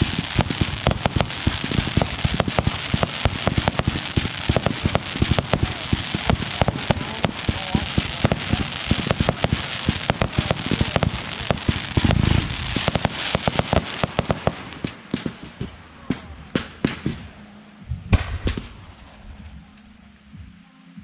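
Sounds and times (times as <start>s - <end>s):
deep firework boom: 0.0s - 17.3s, 18.0s - 19.6s
fireworks cracking and popping: 0.0s - 17.4s, 18.1s - 19.8s.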